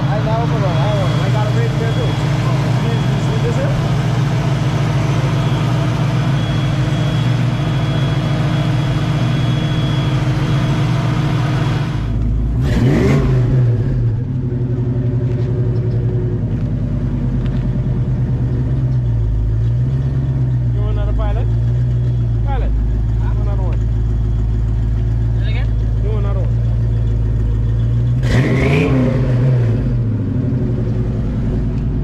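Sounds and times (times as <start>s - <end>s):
car engine running: 0.0s - 32.0s
engine revving: 0.0s - 32.0s.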